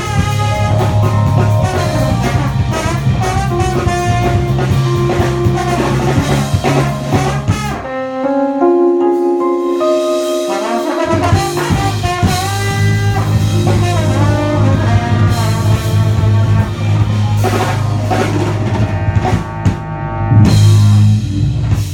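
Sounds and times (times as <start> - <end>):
drums: 0.0 - 7.9, 9.1 - 21.9
live band music: 0.0 - 19.8.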